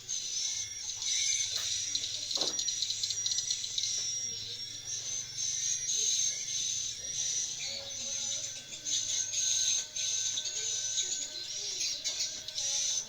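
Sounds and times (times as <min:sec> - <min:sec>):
swiftlets twittering: 0:00.0 - 0:13.0.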